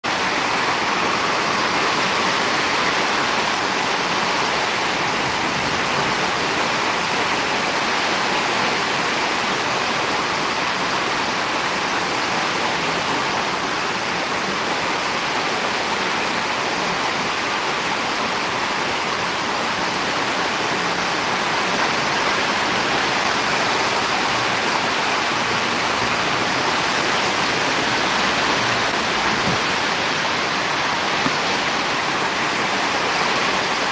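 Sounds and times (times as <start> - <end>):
rain: 0.0 - 33.9
wind: 0.0 - 33.9.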